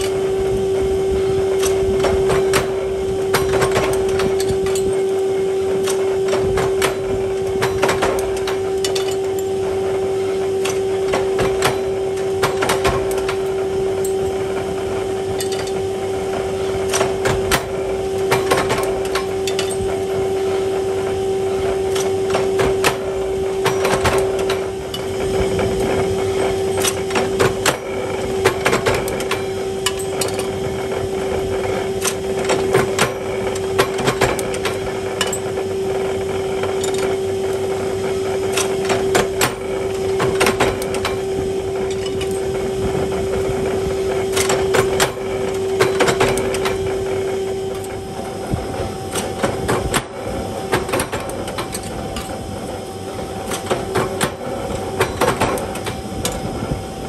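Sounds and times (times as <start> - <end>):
motor hum: 0.0 - 57.0
metallic clanks of forging press: 1.5 - 20.6, 21.4 - 43.5, 44.2 - 48.0, 49.1 - 52.4, 53.4 - 56.6.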